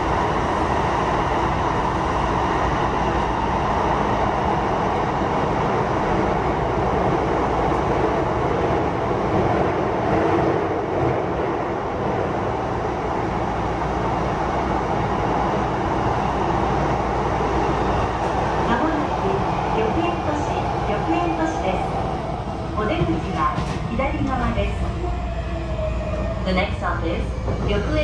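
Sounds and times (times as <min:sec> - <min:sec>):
train wheels on rail: 0:00.0 - 0:28.0.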